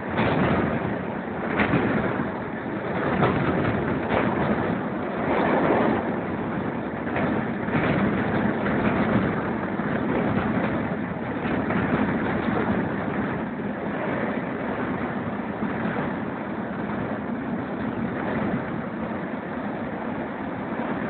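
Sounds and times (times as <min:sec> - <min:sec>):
rushing air: 0:00.0 - 0:21.0
train wheels on rails: 0:00.0 - 0:21.0.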